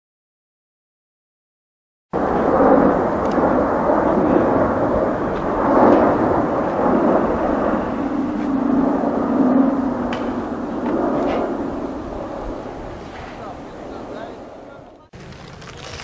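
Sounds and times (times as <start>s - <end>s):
jet aircraft rumble overhead: 2.1s - 16.0s.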